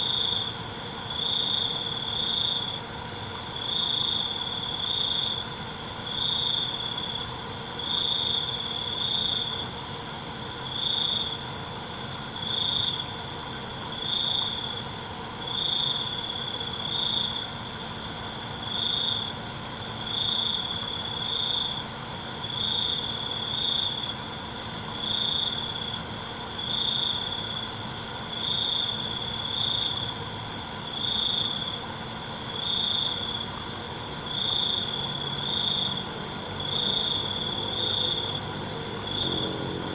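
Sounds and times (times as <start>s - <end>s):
cricket chirping: 0.0s - 39.9s
high insect drone: 0.0s - 39.9s
pulsing insect trill: 0.0s - 39.9s.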